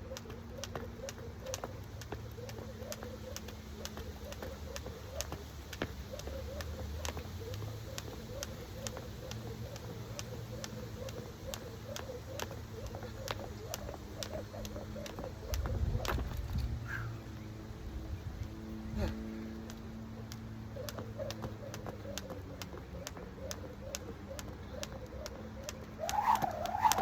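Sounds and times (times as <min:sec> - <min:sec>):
jump rope slapping the ground: 0:00.0 - 0:16.6, 0:19.6 - 0:27.0.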